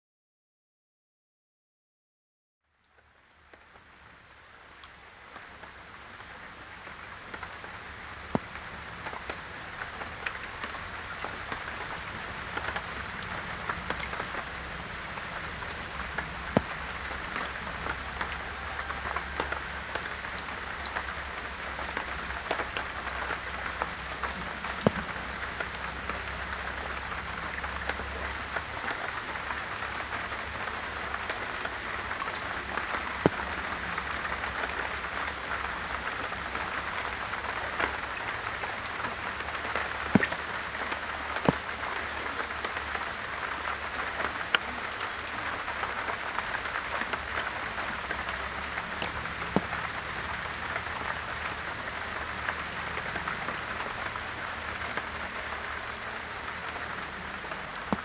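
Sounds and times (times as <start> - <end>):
steady rain falling: 2.6 - 58.0
louder raindrops: 2.7 - 58.0.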